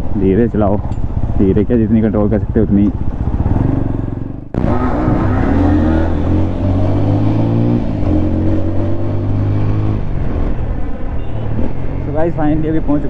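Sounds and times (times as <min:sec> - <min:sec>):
motorcycle engine accelerating: 0:00.2 - 0:11.1.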